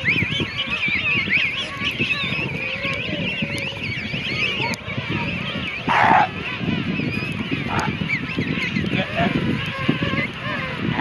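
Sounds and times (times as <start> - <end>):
penguins calling: 0.0 - 11.0
wind rumbling on microphone: 0.0 - 11.0.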